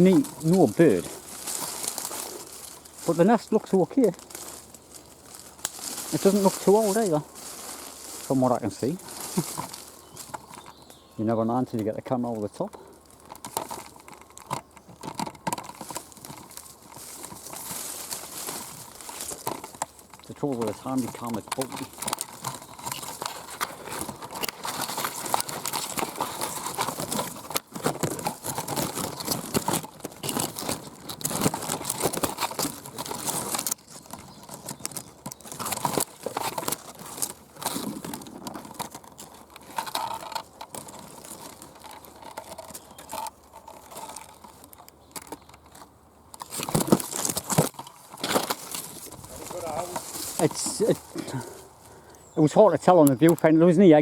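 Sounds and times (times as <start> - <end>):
twigs and leaves rustling: 0.0 - 54.0.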